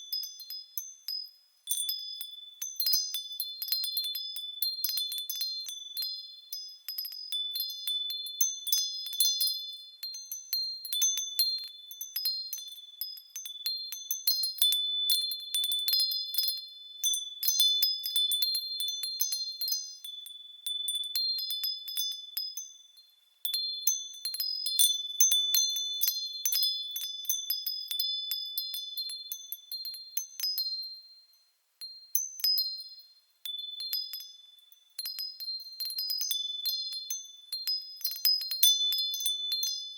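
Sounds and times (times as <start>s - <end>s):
wind bells tinkling: 0.0s - 39.9s.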